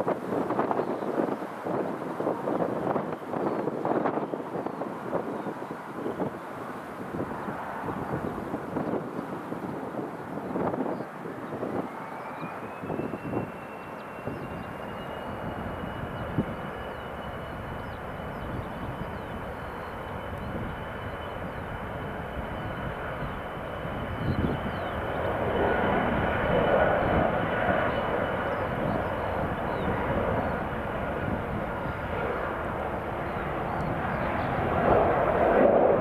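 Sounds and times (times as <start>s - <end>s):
jet engine noise: 0.0s - 36.0s
jet engine whine: 0.0s - 36.0s.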